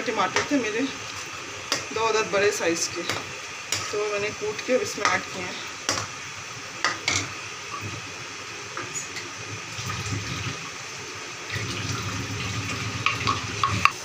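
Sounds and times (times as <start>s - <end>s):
masala sizzling in a pan: 0.0s - 14.0s.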